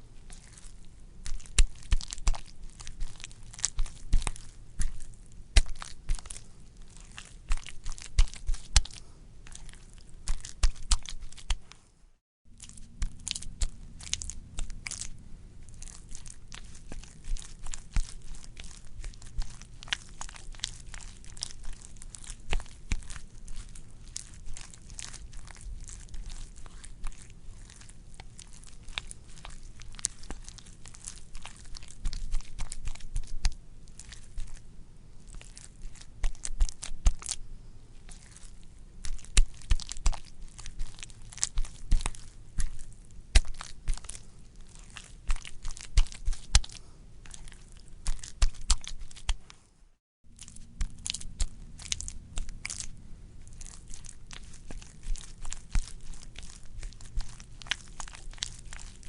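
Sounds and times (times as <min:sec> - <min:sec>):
wet material squelching: 0:00.0 - 0:11.8, 0:12.5 - 0:37.4, 0:38.0 - 0:49.6, 0:50.3 - 0:59.0.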